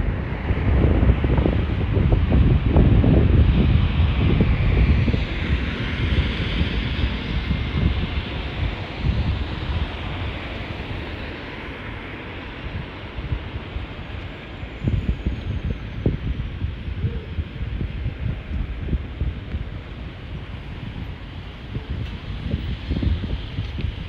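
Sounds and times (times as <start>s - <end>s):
fire engine rumble: 0.0s - 24.0s
wind buffeting microphone: 0.0s - 24.0s.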